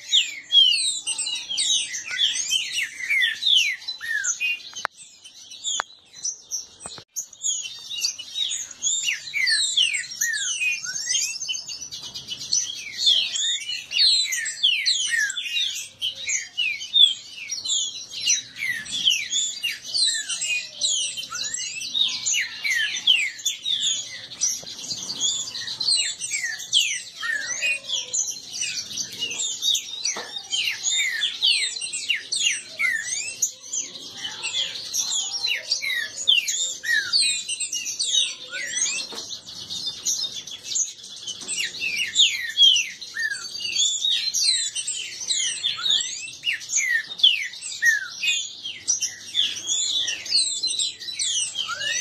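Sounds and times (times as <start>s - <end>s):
birds singing fast songs: 0.0s - 52.0s.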